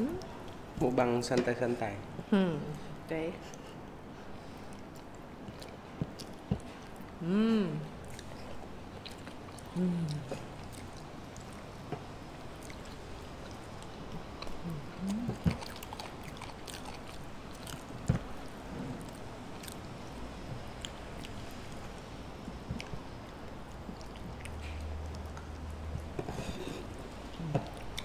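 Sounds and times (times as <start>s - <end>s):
chewing: 4.5s - 7.2s, 7.9s - 28.0s.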